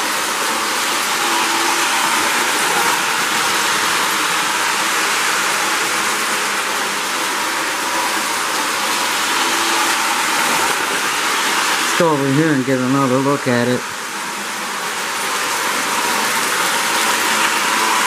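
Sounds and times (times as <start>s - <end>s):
model train running on track: 0.0s - 18.0s.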